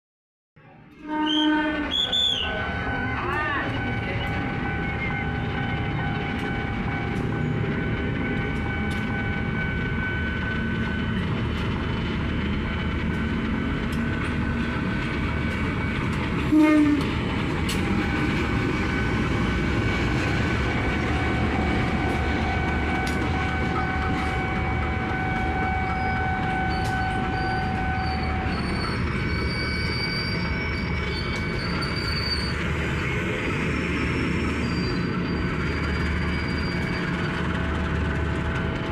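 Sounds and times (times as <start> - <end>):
train rumbling: 0.6 - 38.9
wheels squealing on rails: 1.0 - 38.9.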